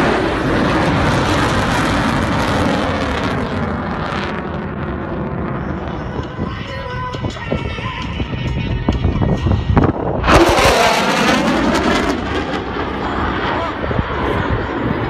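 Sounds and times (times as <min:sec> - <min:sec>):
military jet engine roar: 0:00.0 - 0:15.0.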